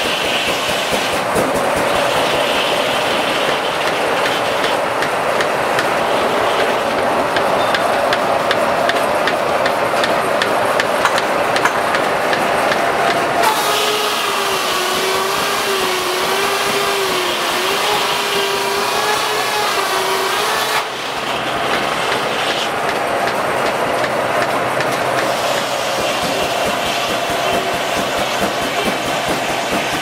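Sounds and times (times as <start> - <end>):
circular saw cutting log: 0.0 - 7.5, 8.1 - 30.0
sawmill mechanical ticking: 0.0 - 19.2, 19.8 - 30.0.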